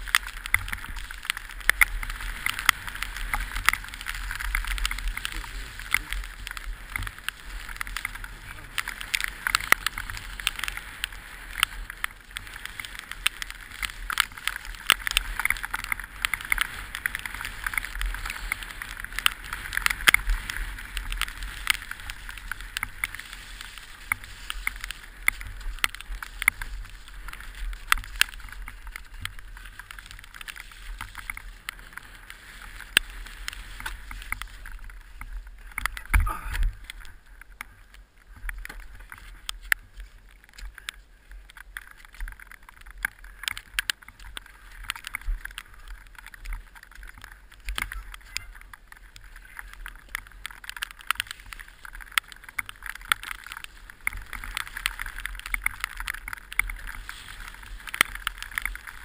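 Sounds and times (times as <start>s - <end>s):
bike rattling and knocking: 0.0s - 59.0s
wind rush on microphone: 0.0s - 59.0s.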